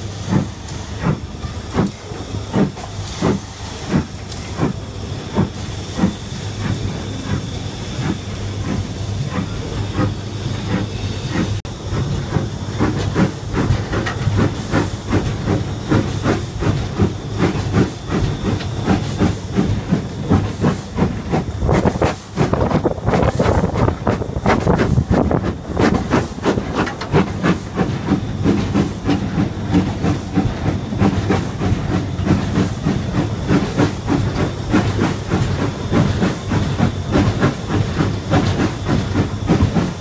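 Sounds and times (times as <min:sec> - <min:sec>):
steam hissing: 0:00.0 - 0:40.0
steam locomotive exhaust beats: 0:00.0 - 0:40.0.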